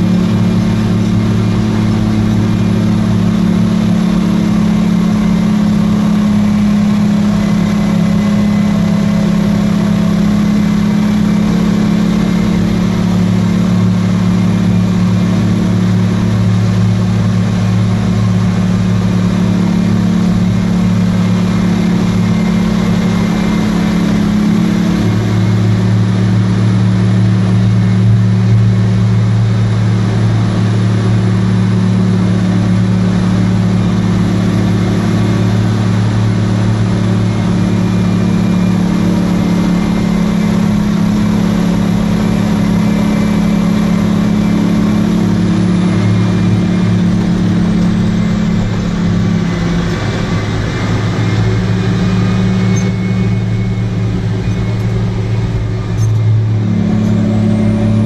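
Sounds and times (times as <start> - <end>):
heavy mining machinery droning: 0.0 - 58.0.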